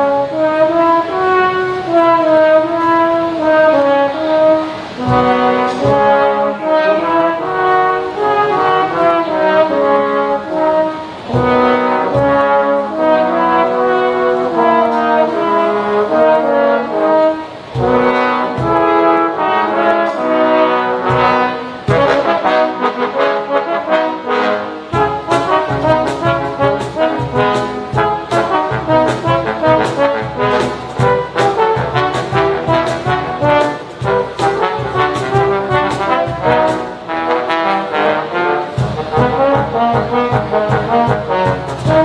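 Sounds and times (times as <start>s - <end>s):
trombone quartet playing chords: 0.0s - 42.0s.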